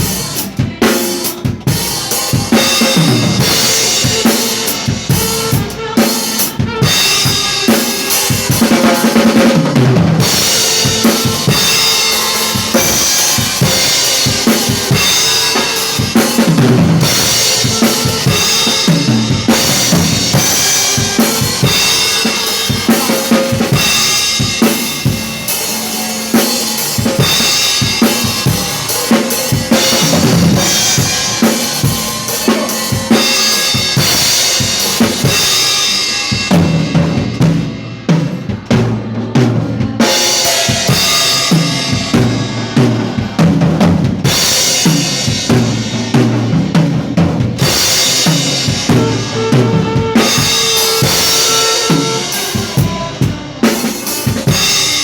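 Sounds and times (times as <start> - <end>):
drum kit groove: 0.0 - 55.0.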